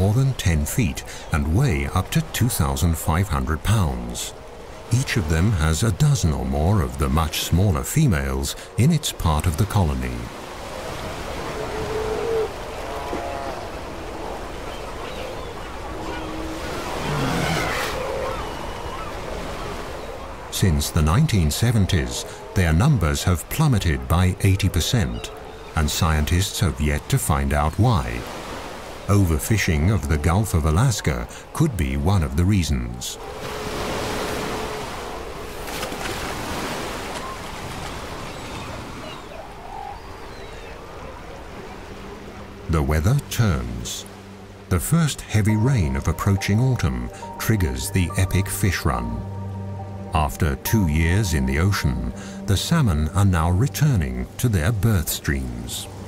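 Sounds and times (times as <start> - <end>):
sea lions calling: 0.0 - 56.0
waves washing: 0.0 - 56.0
wind: 0.0 - 56.0.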